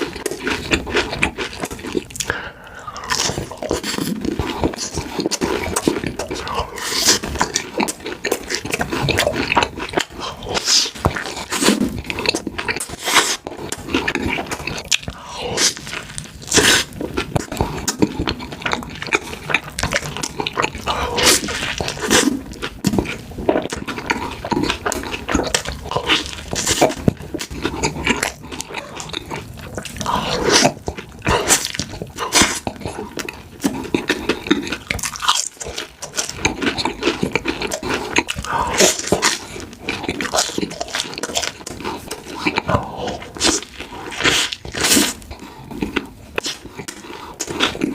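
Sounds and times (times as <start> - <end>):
person chewing and crunching food: 0.0 - 47.9.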